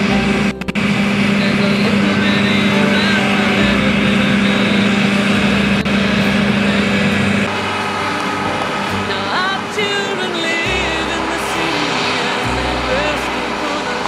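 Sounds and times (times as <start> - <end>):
combine harvester engine hum: 0.0 - 14.0
rushing machinery noise: 0.0 - 14.0.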